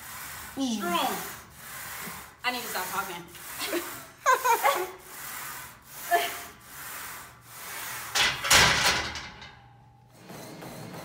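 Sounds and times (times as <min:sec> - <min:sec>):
rubbing and sliding noise: 0:00.0 - 0:09.3.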